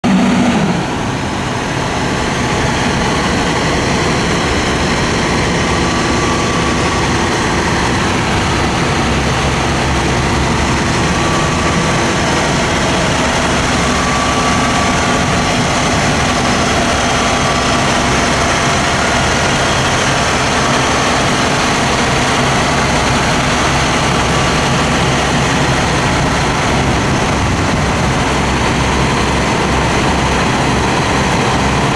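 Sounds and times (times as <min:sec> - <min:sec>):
diesel truck engine running: 0:00.0 - 0:31.9.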